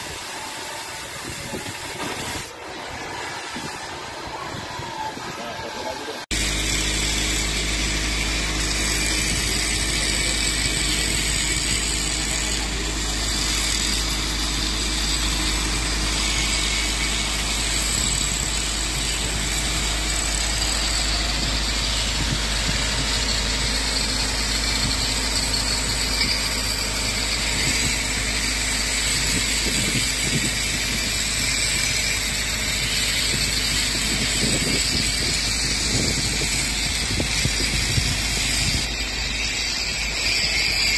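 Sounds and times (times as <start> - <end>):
angle grinders grinding steel: 0.0 - 40.9.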